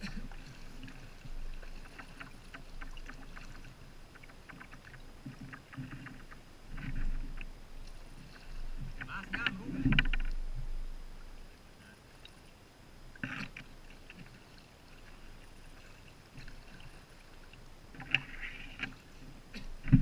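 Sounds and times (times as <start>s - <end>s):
faint water noise: 0.0s - 20.0s
paddle splashing water: 0.0s - 20.0s.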